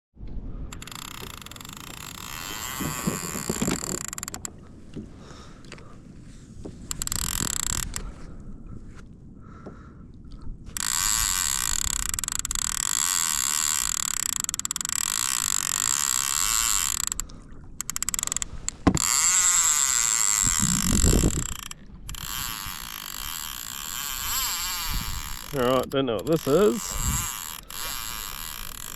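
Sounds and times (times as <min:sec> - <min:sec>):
fishing reel drag screaming: 0:00.7 - 0:04.5, 0:06.8 - 0:08.1, 0:10.7 - 0:28.9.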